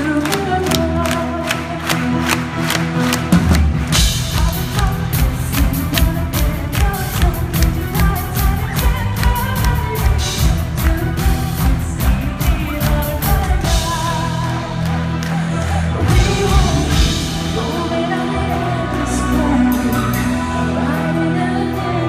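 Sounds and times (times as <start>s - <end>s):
drums: 0.0s - 22.0s
woman singing lead: 0.0s - 22.0s
symphonic metal band playing: 0.2s - 22.0s.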